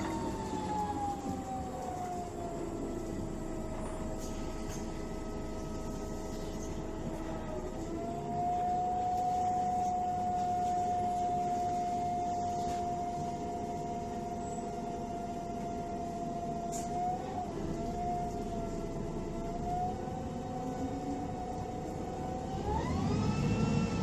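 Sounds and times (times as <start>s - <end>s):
low rumble and road noise: 0.0s - 24.0s.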